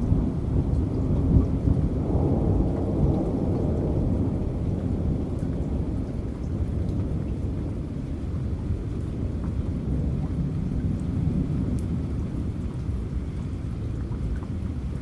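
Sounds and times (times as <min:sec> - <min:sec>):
rolling thunder: 0:00.0 - 0:12.9
heavy rain: 0:00.0 - 0:15.0.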